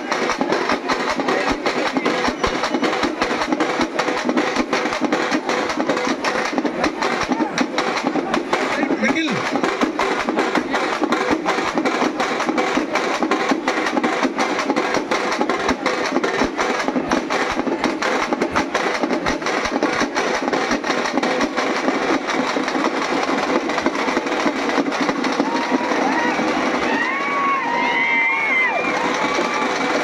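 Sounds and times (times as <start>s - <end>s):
drummers beating stick drums: 0.0s - 30.0s.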